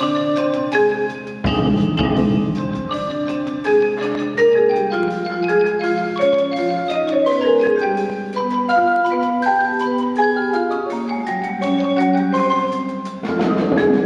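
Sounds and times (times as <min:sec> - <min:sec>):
mallet percussion ensemble: 0:00.0 - 0:14.0.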